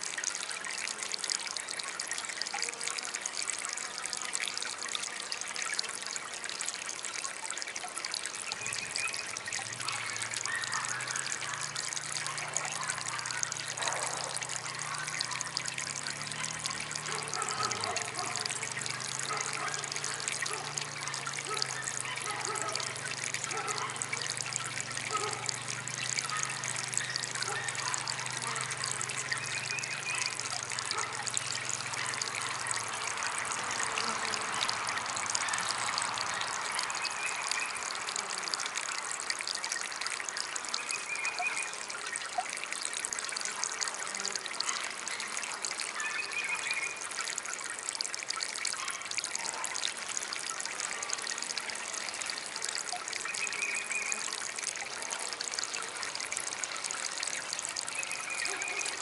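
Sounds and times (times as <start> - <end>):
water fountain trickling: 0.0 - 59.0.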